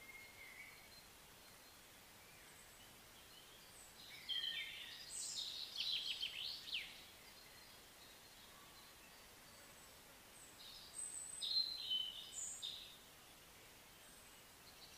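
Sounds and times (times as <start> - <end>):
songbird singing: 0.0 - 14.9
steady outdoor hiss: 0.0 - 14.9.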